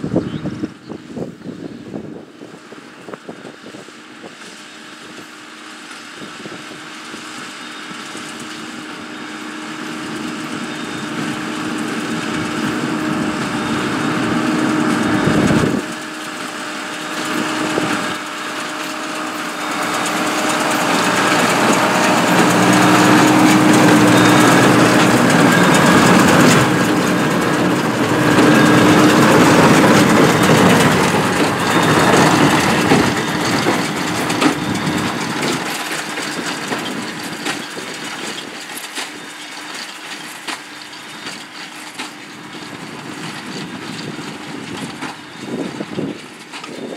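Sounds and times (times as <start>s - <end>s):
tractor engine running under load: 0.0s - 46.9s
baler working: 0.1s - 46.9s.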